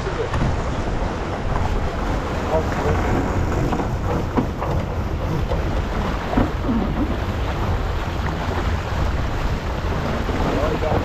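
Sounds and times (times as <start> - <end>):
water rushing along hull: 0.0 - 11.0
wind rumbling on microphone: 0.0 - 11.0.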